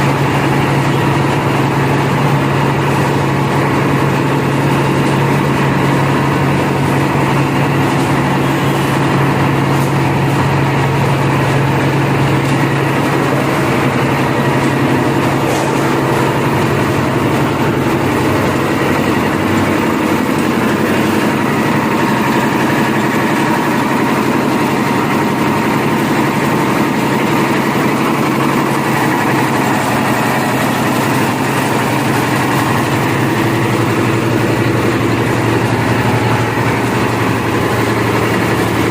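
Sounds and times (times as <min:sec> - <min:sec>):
concrete mixer engine humming: 0:00.0 - 0:38.9.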